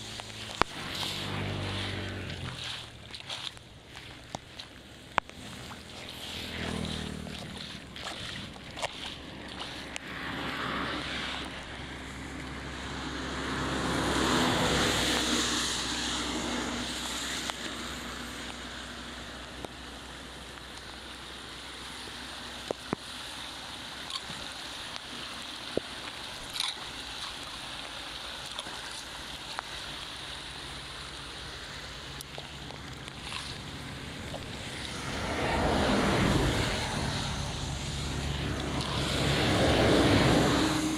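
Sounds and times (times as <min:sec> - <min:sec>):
floodwater rushing and sloshing: 0:00.0 - 0:40.9.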